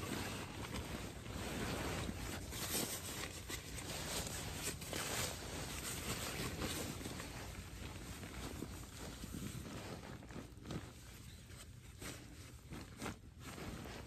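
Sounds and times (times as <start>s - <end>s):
sleeping bag rustling: 0.0s - 14.0s.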